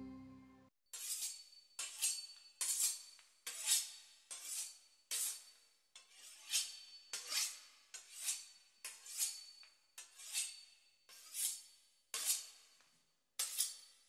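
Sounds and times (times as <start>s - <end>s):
knife sawing through crisp pastry: 1.0s - 12.6s.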